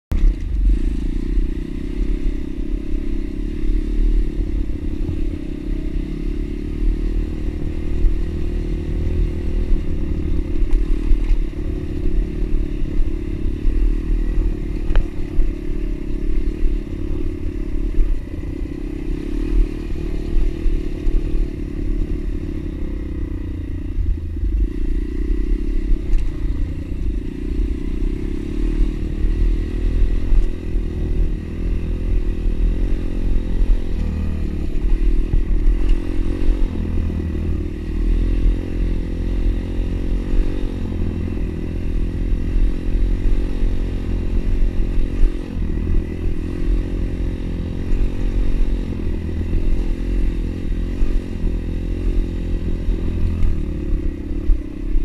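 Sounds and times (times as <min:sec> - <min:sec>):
motorbike engine running: 0:00.1 - 0:55.0.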